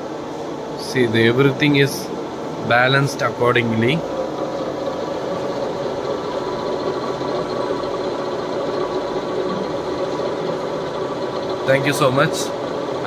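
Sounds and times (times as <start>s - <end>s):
balancing machine mechanical whir: 0.0s - 13.0s.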